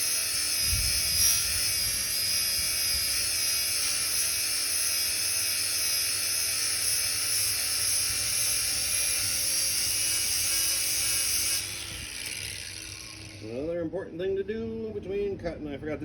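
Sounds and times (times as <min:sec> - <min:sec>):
power grinder grinding metal: 0:00.0 - 0:13.7.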